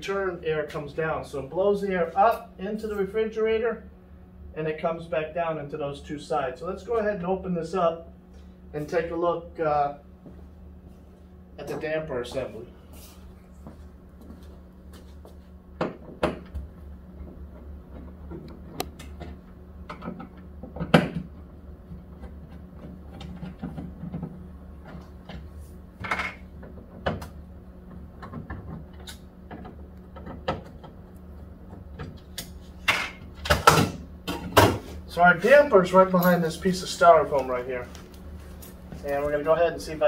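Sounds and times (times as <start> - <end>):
refrigerator low hum: 0.0 - 40.0.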